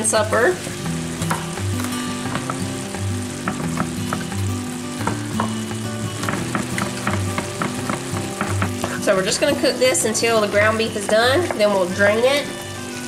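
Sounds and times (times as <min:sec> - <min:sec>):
meat and onion sizzling: 0:00.0 - 0:13.0.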